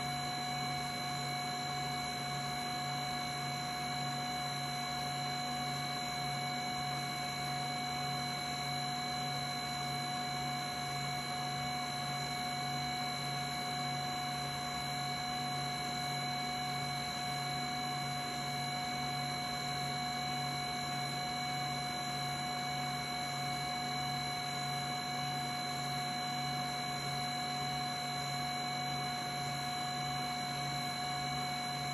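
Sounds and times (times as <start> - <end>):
fan motor humming with whine: 0.0 - 31.9.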